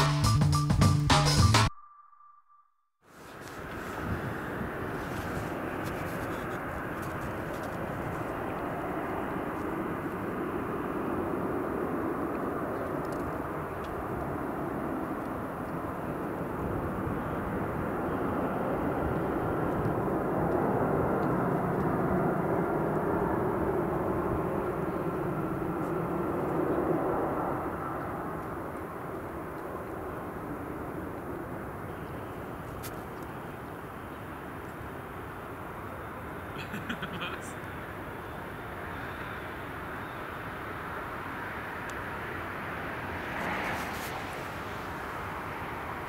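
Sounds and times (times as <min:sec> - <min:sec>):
jet engines roaring: 0:03.3 - 0:31.9, 0:37.2 - 0:46.0.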